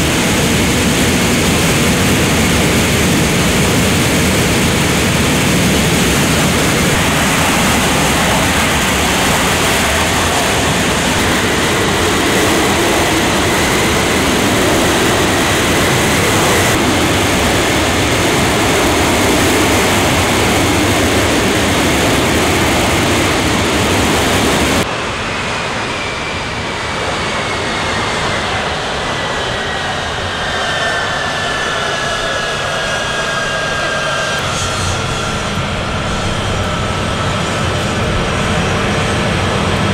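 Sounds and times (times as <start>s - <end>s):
jet engines roaring: 0.0s - 39.9s
turbine whine falling in pitch: 0.0s - 39.9s.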